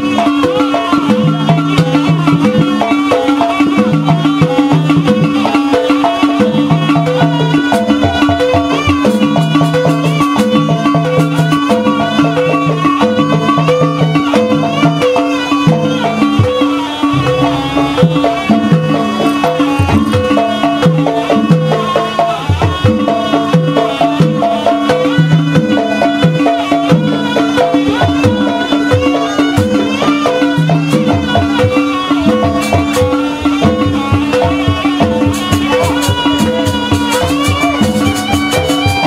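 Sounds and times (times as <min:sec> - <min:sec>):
percussion ensemble: 0:00.0 - 0:39.0
wavering high melody: 0:00.0 - 0:39.0.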